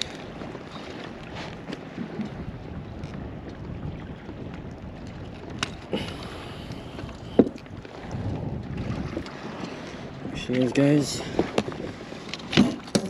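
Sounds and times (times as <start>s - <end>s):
low handling rumble: 0.0s - 12.5s.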